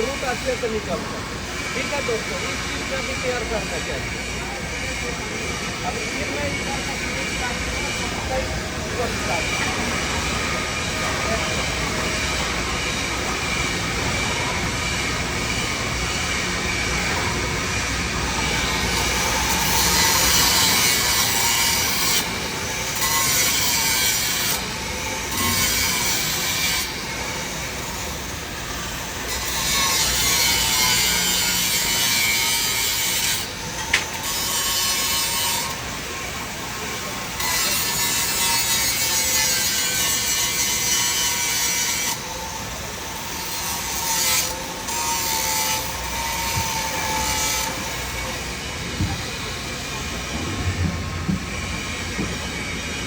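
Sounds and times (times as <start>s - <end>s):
welding arc hissing: 0.0s - 53.0s.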